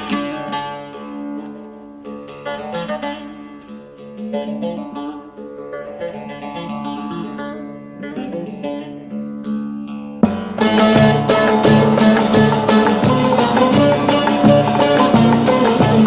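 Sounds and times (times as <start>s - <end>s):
plucked string instrument melody: 0.0s - 16.0s.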